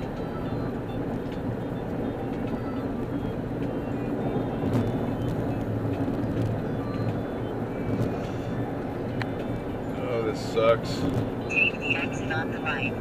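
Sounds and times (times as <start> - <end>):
car road and engine drone: 0.0 - 13.0.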